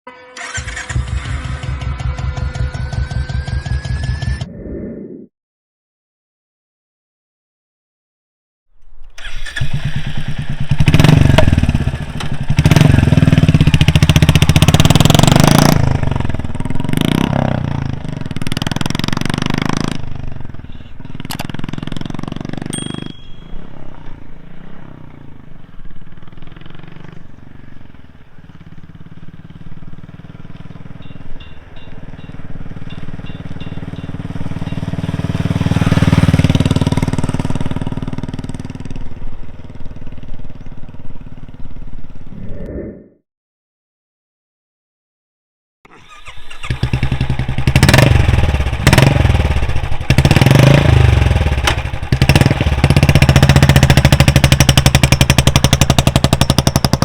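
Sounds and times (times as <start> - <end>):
motorcycle engine revving and idling: 0.4 - 4.3, 9.2 - 42.3, 46.0 - 57.0.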